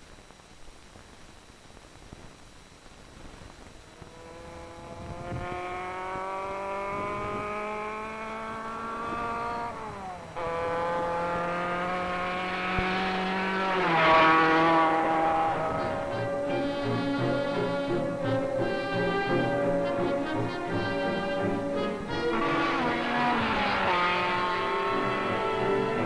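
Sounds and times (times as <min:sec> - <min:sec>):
sports car engine accelerating: 0:03.8 - 0:26.0.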